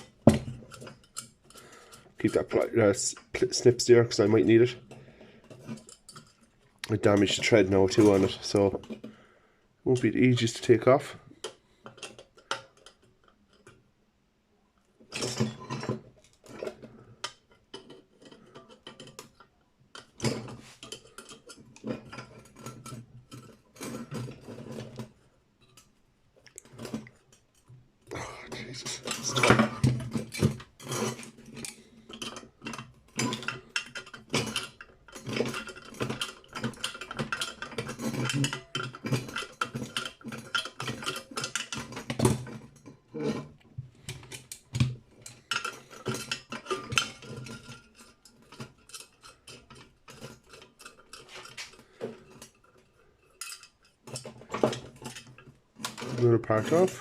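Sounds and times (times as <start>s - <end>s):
metal parts clinking and rattling: 0.0s - 9.2s, 9.9s - 13.8s, 15.0s - 26.0s, 26.6s - 27.8s, 28.4s - 57.0s.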